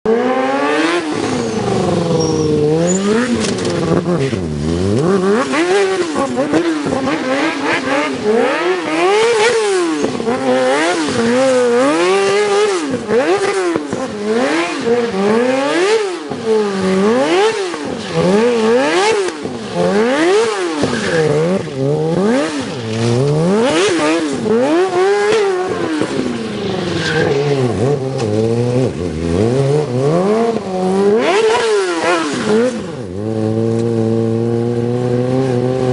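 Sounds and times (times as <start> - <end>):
motorcycle engine revving: 0.1 - 35.9.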